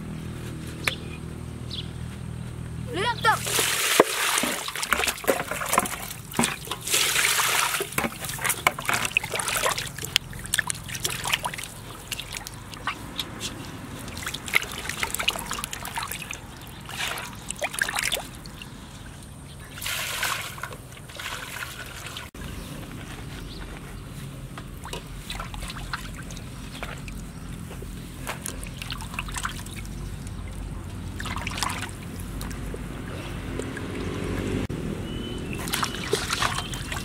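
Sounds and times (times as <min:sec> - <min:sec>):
water splashing in metal basin: 0:03.4 - 0:13.2, 0:13.8 - 0:22.3, 0:24.8 - 0:34.6, 0:35.2 - 0:37.0.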